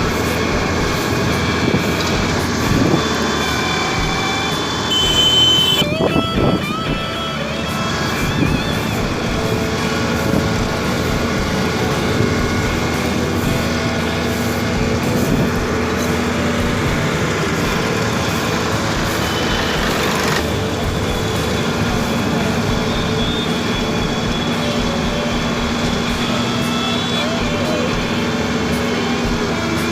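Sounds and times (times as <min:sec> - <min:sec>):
construction machinery engine drone: 0:00.0 - 0:29.9.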